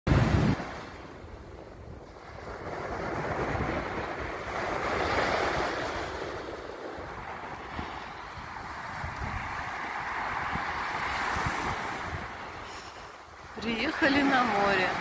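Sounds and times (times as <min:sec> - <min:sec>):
waves washing up a beach: 0:00.1 - 0:15.0
wind on microphone: 0:00.1 - 0:15.0.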